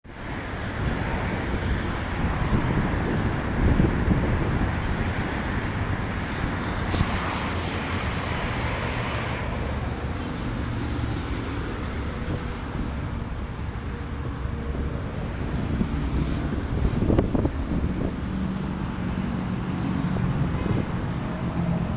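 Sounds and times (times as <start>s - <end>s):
road noise: 0.0s - 21.9s
wind buffeting microphone: 0.2s - 21.9s.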